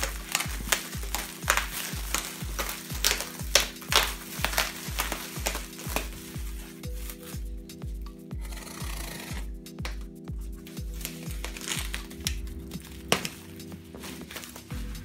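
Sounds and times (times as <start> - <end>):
plastic wrap crinkling: 0.0 - 8.0, 9.4 - 15.0
music with bass beat: 0.0 - 15.0.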